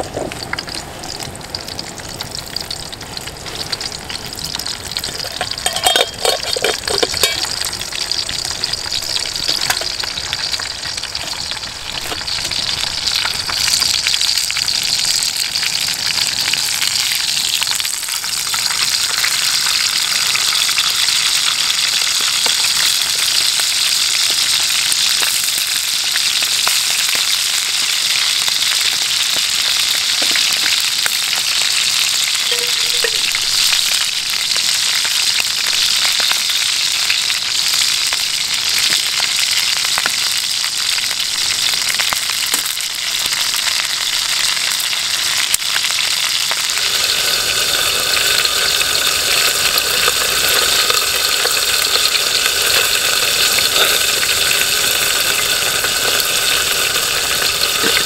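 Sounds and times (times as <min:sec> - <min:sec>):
sausages sizzling in a frying pan: 0:00.0 - 0:58.0.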